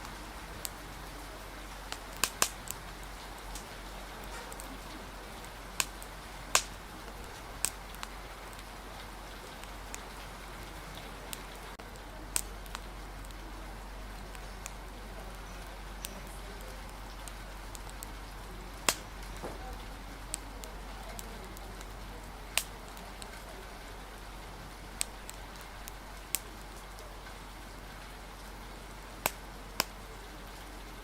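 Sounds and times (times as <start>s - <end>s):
rain hissing: 0.0s - 31.0s
wood fire crackling: 0.0s - 31.0s.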